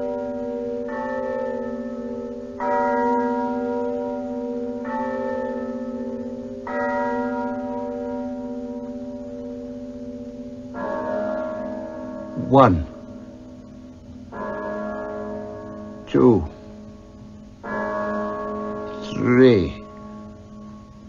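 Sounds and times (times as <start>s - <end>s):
church bells chiming: 0.0s - 21.0s.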